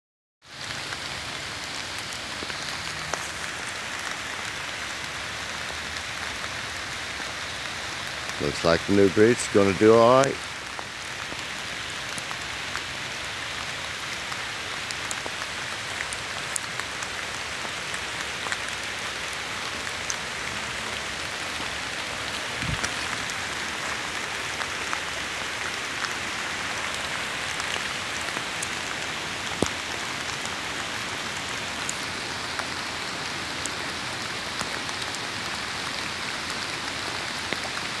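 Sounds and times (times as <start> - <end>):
steady rain: 0.4 - 38.0.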